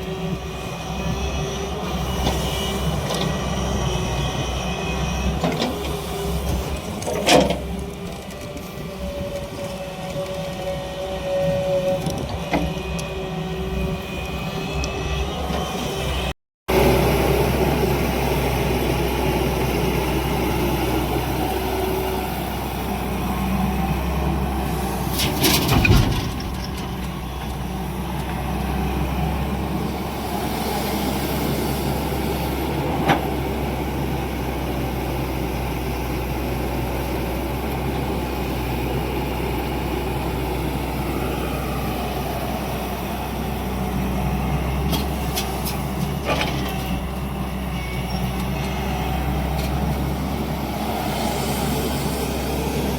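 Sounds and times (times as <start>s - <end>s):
excavator diesel engine droning: 0.0s - 52.9s.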